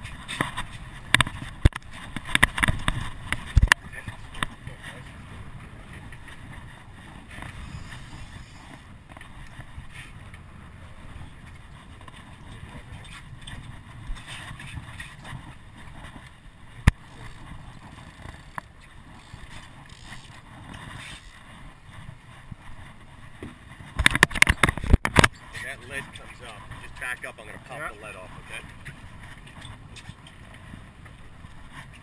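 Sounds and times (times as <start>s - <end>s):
water noise: 0.0s - 32.0s
wind: 0.0s - 32.0s.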